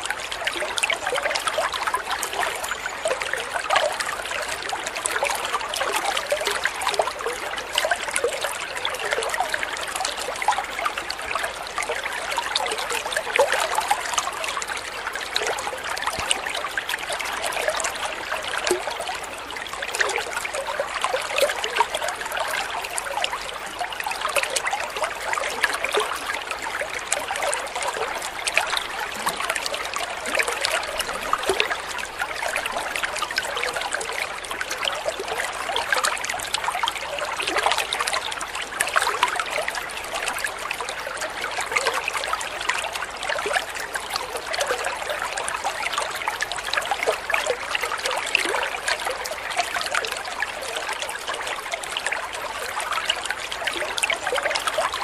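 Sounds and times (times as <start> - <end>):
water trickling into a pond: 0.0 - 55.0.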